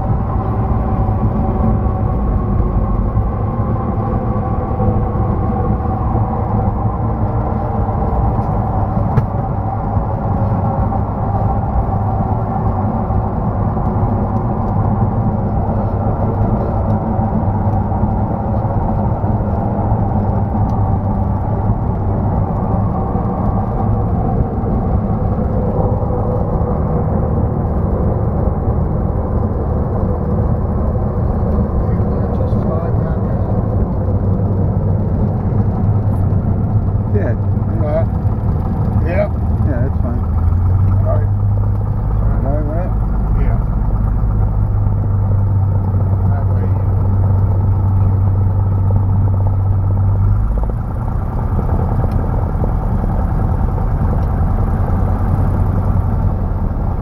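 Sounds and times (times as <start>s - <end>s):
light airplane engine drone: 0.0s - 57.0s.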